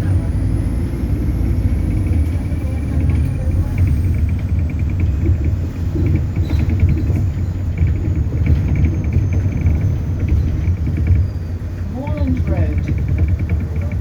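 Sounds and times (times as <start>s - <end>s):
bus drivetrain and road rumble: 0.0s - 14.0s.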